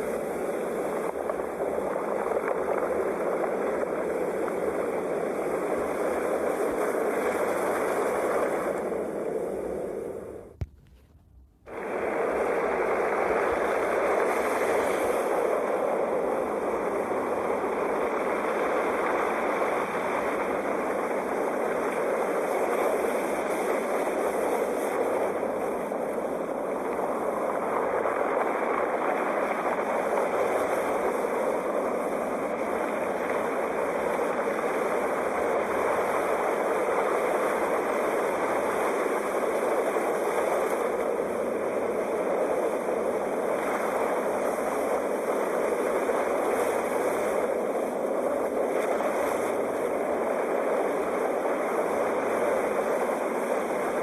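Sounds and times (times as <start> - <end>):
sea waves washing: 0.0 - 54.0.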